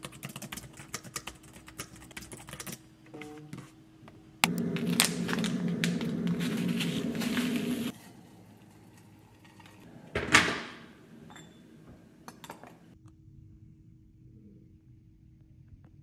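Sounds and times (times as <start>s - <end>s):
faint steady hum: 1.4s - 16.0s.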